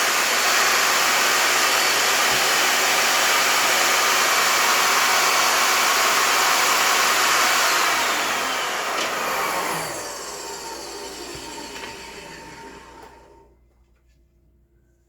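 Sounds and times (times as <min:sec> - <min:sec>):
power tool motor running: 0:00.0 - 0:13.4.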